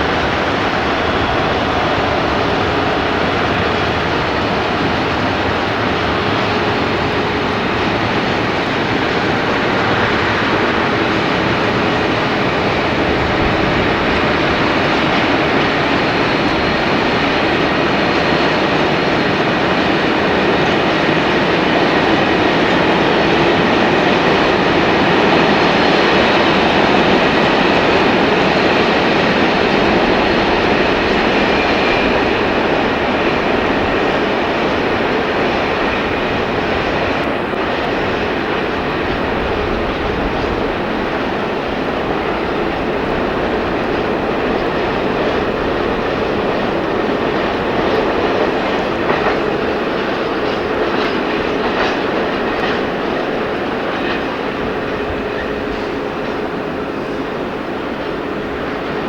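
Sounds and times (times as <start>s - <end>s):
diesel locomotive running: 0.0s - 59.0s.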